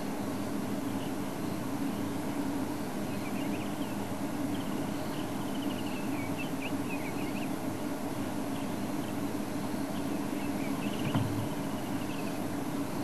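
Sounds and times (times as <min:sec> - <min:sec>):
small birds chirping: 0:00.0 - 0:02.3, 0:02.9 - 0:13.0.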